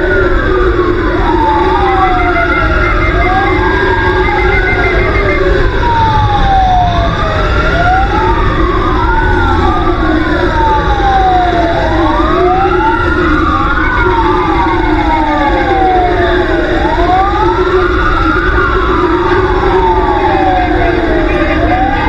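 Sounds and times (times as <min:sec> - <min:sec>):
emergency sirens wailing: 0:00.0 - 0:22.0
low rumble of engine and road: 0:00.0 - 0:22.0.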